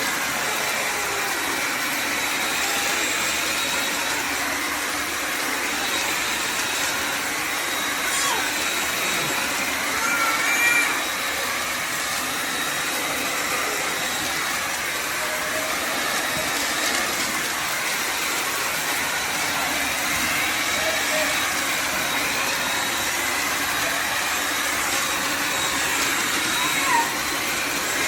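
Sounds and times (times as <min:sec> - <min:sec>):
vacuum motor humming with whine: 0:00.0 - 0:28.0.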